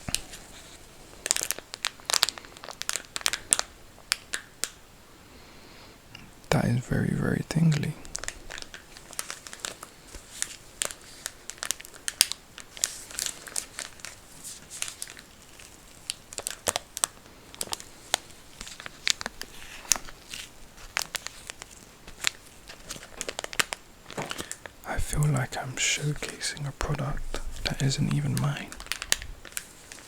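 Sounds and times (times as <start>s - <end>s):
plastic packet crinkling: 0.0s - 4.8s, 7.3s - 30.0s.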